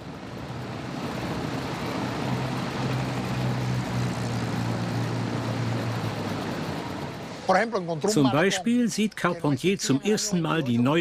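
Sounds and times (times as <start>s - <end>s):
street traffic: 0.0s - 11.0s
vehicle engine low drone: 0.0s - 11.0s.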